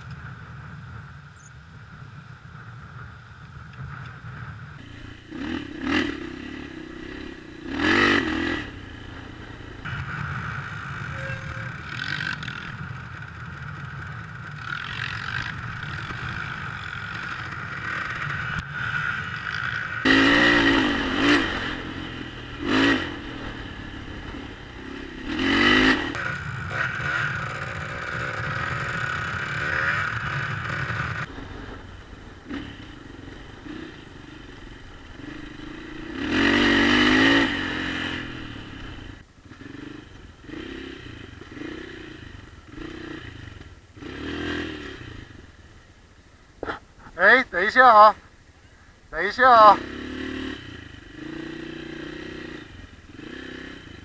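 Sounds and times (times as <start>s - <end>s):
dirt bike engine revving: 4.8s - 13.0s, 13.6s - 45.5s, 49.2s - 54.0s.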